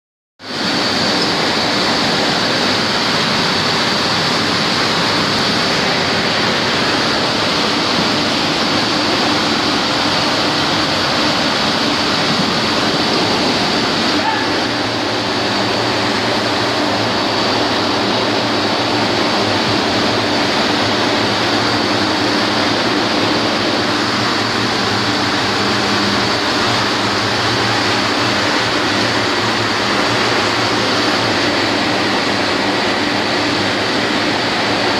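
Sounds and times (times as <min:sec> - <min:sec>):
textile machine running: 0:00.4 - 0:34.9
thin high whine: 0:00.4 - 0:34.9.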